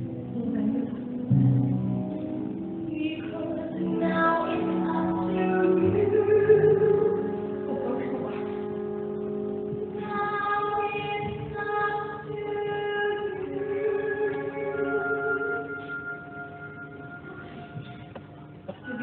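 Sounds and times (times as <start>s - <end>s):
woman singing with vibrato: 0.2s - 17.8s.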